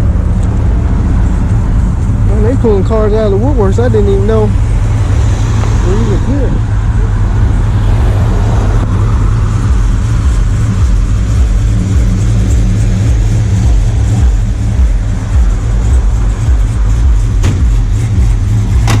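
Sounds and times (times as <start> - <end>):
car engine choppy idle: 0.0 - 7.7, 8.8 - 19.0.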